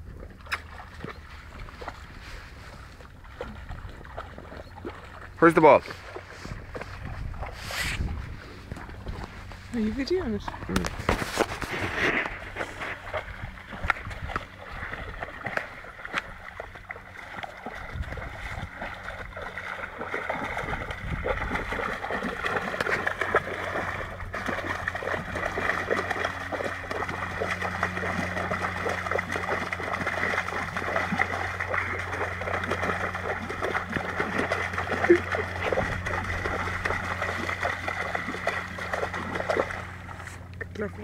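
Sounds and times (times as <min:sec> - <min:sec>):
dog splashing in shallow water: 0:00.0 - 0:41.0
steady low hum: 0:00.0 - 0:41.0.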